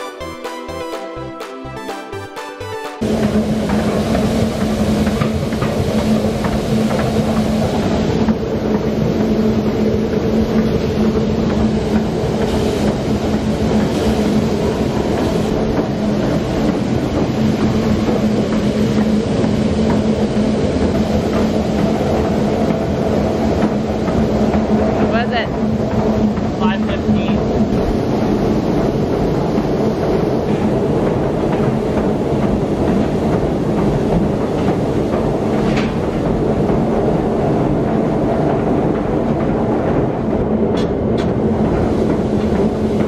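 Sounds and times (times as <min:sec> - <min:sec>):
farm machinery humming: 0:00.0 - 0:37.6.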